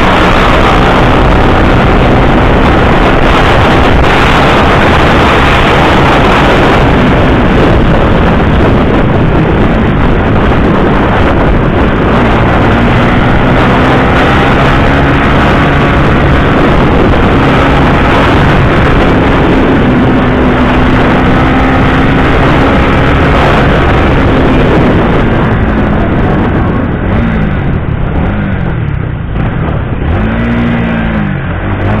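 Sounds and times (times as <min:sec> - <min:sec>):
motorcycle engine running: 0:00.0 - 0:32.0
wind and road rush: 0:00.0 - 0:32.0.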